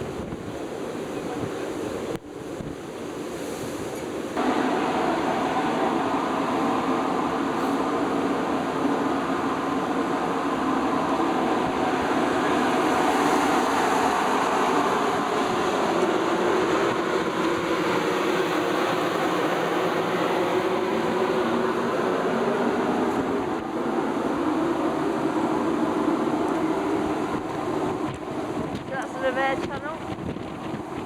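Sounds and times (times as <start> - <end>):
ship mechanical rumble: 4.1 - 31.0.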